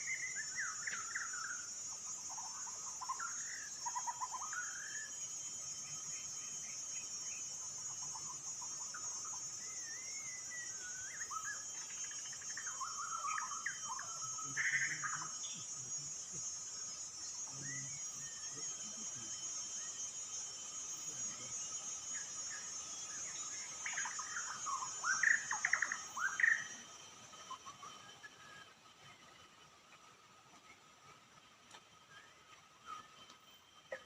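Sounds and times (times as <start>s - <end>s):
songbird singing: 0.0s - 31.4s
high insect drone: 0.0s - 34.0s.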